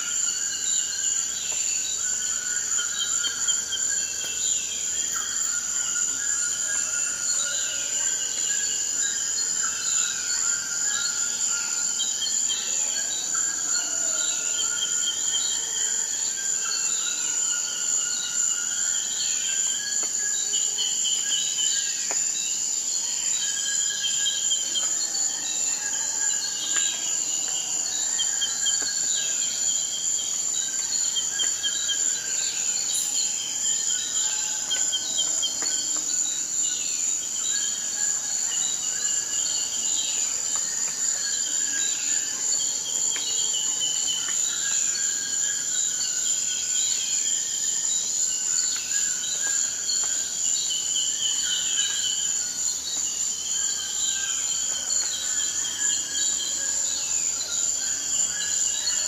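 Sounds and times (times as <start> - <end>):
high-pitched insect trill: 0.0 - 59.0.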